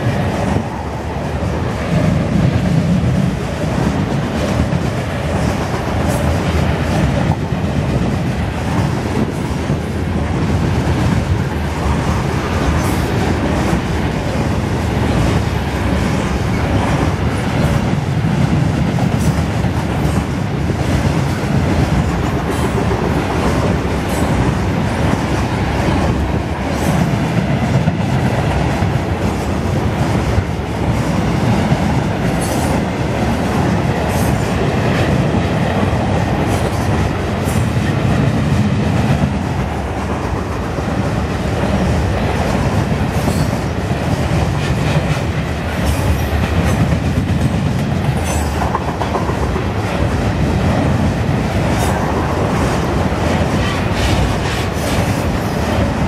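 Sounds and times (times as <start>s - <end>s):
freight train wheels rumbling on rail: 0.0s - 56.0s.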